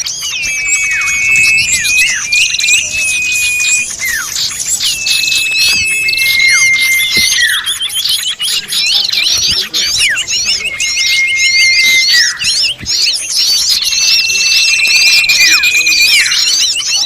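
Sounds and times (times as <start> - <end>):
chorus of small birds chirping: 0.0 - 17.0.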